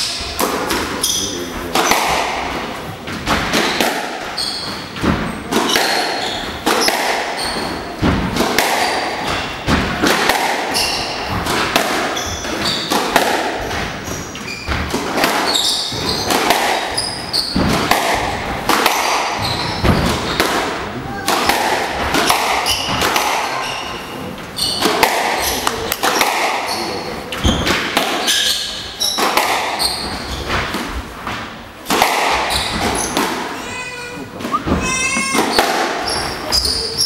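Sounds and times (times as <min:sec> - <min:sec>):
shoes squeaking on wooden floor: 0:00.2 - 0:08.0, 0:10.7 - 0:13.0, 0:13.6 - 0:17.9, 0:19.1 - 0:21.2, 0:21.9 - 0:25.9, 0:26.6 - 0:31.6, 0:32.4 - 0:37.0
squash ball cracking off rackets: 0:01.7 - 0:33.6.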